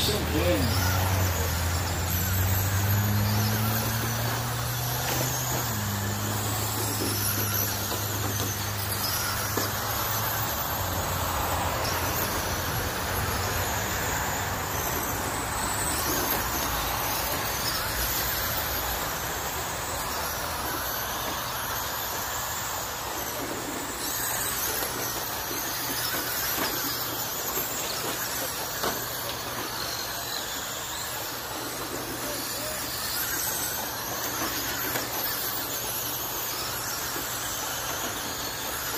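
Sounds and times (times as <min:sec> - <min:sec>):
electric rc trucks whining: 0:00.0 - 0:38.9.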